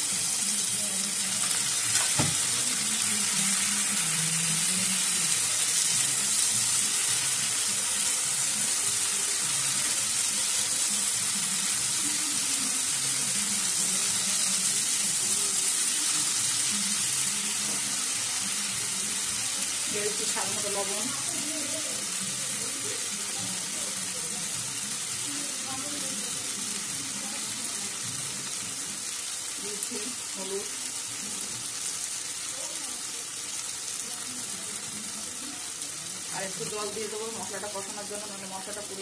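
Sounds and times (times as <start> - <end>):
spice paste sizzling in oil: 0.0 - 39.0.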